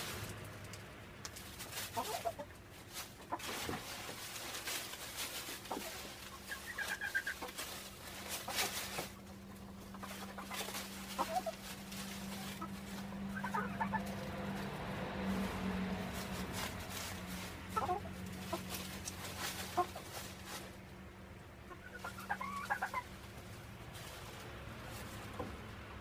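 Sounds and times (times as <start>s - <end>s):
chickens clucking: 0.0s - 26.0s
chickens scratching in compost: 0.0s - 26.0s.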